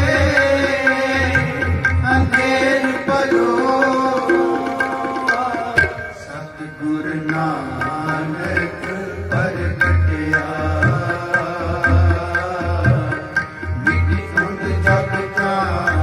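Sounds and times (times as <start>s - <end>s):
harmonium melody: 0.0s - 16.0s
tabla beat: 0.0s - 16.0s.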